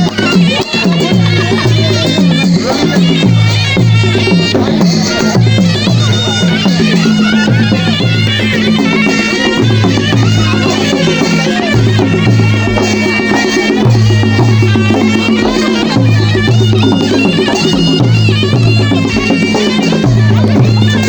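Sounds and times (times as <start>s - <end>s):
high wavering melody: 0.0s - 21.0s.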